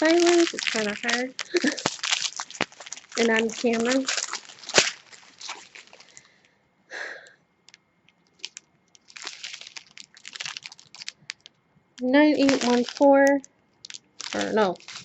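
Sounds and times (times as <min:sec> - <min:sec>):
plastic bags crinkling: 0:00.0 - 0:06.5, 0:07.6 - 0:15.0.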